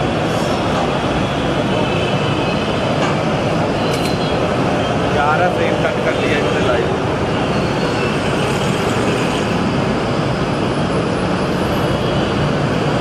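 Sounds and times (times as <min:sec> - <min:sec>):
rumble of moving vehicles: 0:00.0 - 0:13.0.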